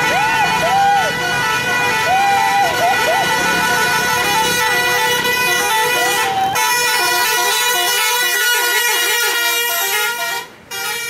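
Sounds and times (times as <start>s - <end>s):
bus musical horn tune: 0.0s - 11.0s.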